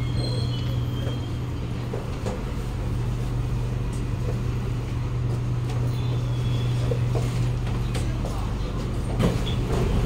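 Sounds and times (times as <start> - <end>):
low hum of train equipment: 0.0 - 10.0.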